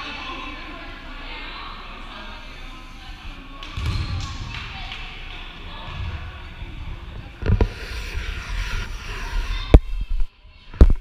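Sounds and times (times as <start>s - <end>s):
background chatter: 0.0s - 11.0s.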